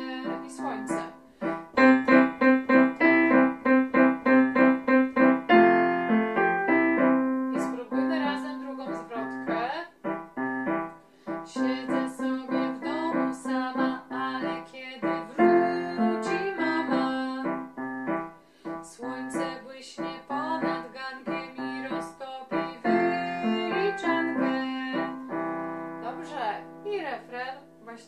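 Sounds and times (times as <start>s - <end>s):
electronic keyboard melody: 0.0s - 28.0s.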